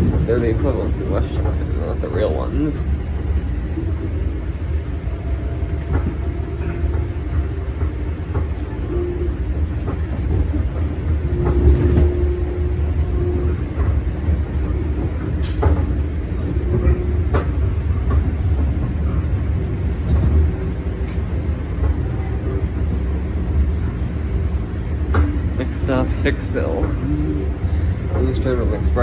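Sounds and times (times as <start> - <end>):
train low rumble: 0.0 - 29.0.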